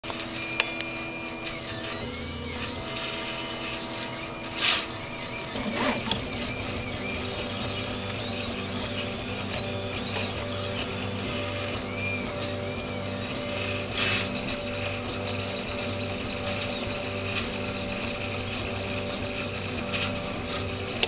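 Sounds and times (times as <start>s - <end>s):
click: 0.0s - 21.0s
printer stepper motors whining: 0.0s - 21.0s.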